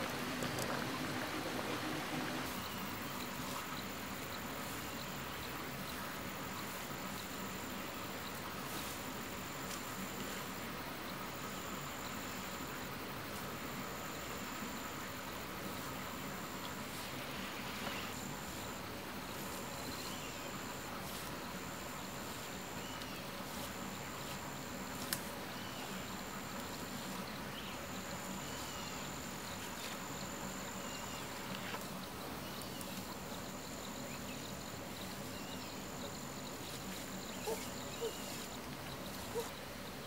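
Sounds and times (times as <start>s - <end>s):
insects buzzing high-pitched: 0.0s - 40.0s
steady outdoor hiss: 0.0s - 40.0s.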